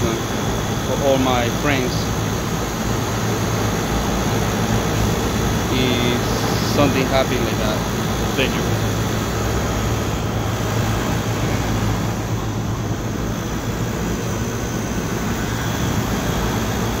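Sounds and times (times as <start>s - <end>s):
air conditioner compressor humming: 0.0s - 17.0s.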